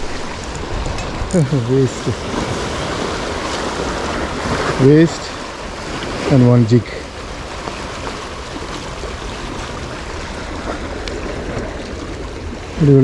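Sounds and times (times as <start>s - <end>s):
small waves washing over rocks: 0.0s - 13.0s.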